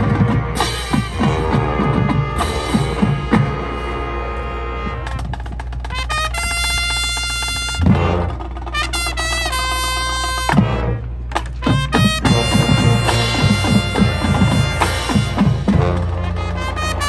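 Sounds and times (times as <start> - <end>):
brass band playing: 0.0 - 17.0
drumline strikes: 0.0 - 17.0.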